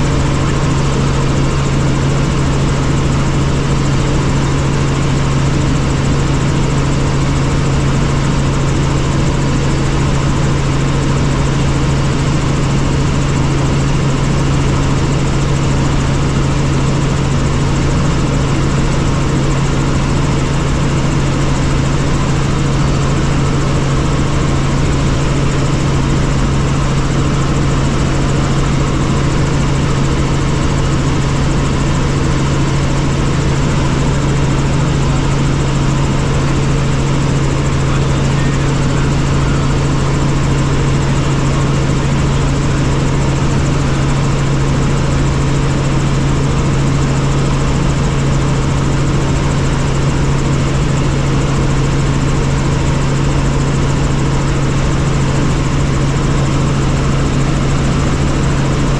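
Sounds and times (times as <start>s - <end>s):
helicopter engine and rotor noise: 0.0s - 58.9s.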